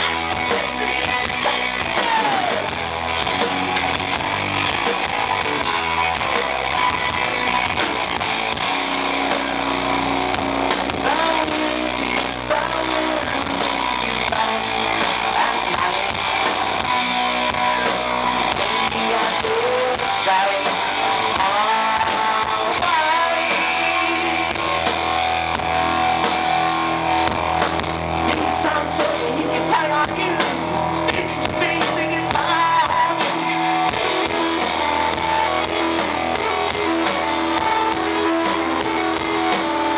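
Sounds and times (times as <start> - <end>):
distorted live rock band: 0.0 - 39.9.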